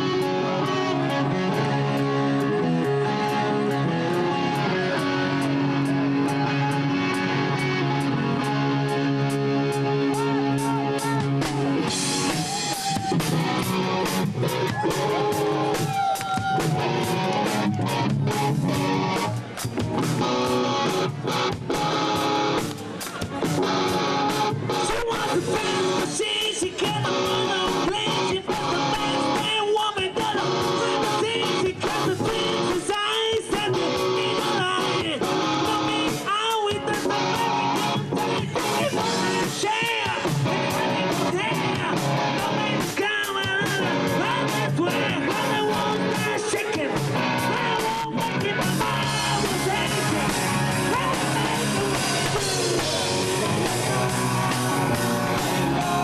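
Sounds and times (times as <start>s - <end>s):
person singing: 0.0s - 18.1s, 24.1s - 56.0s
bass guitar: 0.0s - 56.0s
drum kit: 0.0s - 56.0s
electric guitars: 0.0s - 56.0s.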